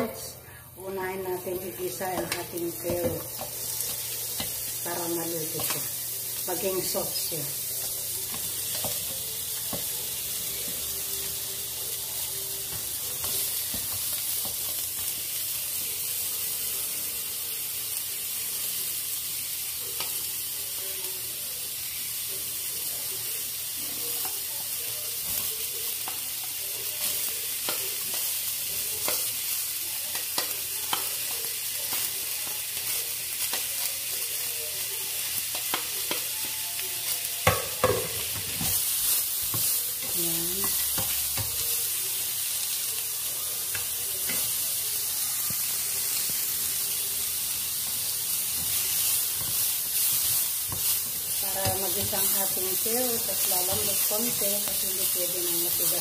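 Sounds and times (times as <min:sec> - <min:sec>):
carrots sizzling in oil: 0:00.0 - 0:56.0.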